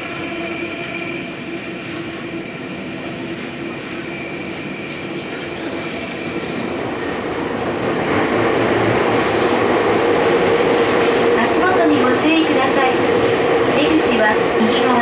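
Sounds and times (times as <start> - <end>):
subway motor whine: 0.0 - 15.0
wheel and track rumble: 0.0 - 15.0.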